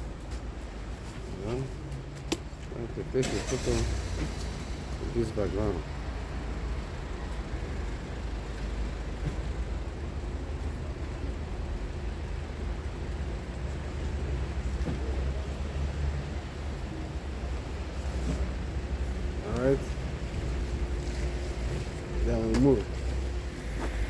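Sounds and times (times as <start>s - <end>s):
city street rumble: 0.0s - 24.0s.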